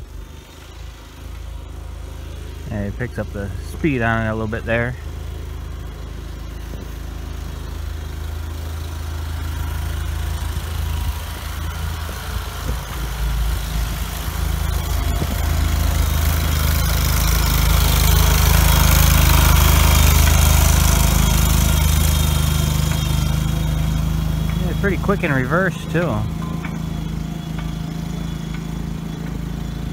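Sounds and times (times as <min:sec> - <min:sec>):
backhoe engine running: 0:00.0 - 0:29.9.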